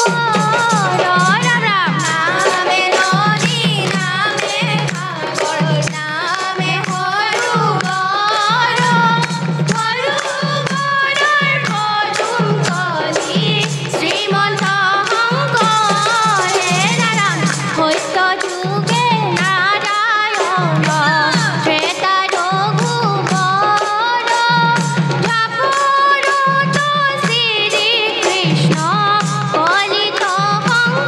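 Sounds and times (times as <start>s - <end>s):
girls singing a devotional hymn: 0.0s - 31.0s
hands clapping a steady beat: 0.0s - 31.0s.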